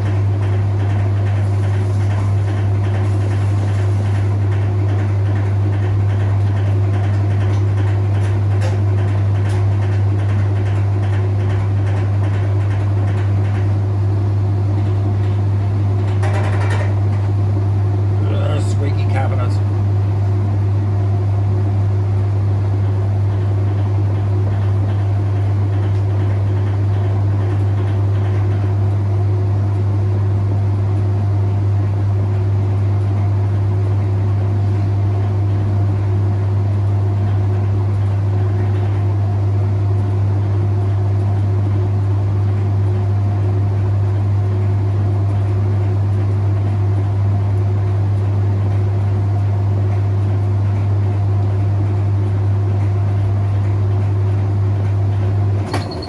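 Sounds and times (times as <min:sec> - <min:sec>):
washing machine low hum: 0:00.0 - 0:56.0.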